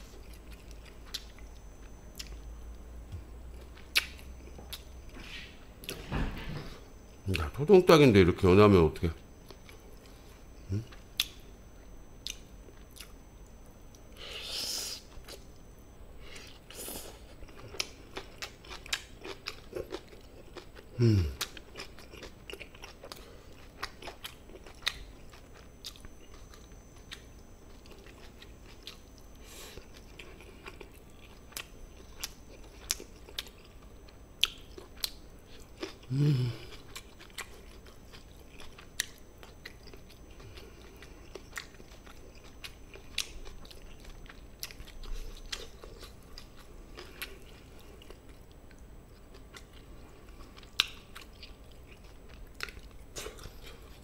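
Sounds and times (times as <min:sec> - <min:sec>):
person chewing with wet smacks: 0:00.0 - 0:05.0, 0:12.2 - 0:13.2, 0:16.4 - 0:54.0.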